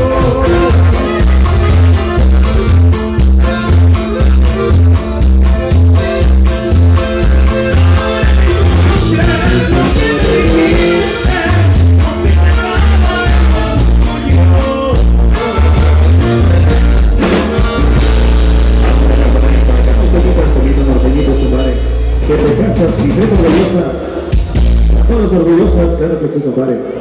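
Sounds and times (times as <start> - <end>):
held low chord: 0.0 - 25.2
live band dance music: 0.0 - 27.0.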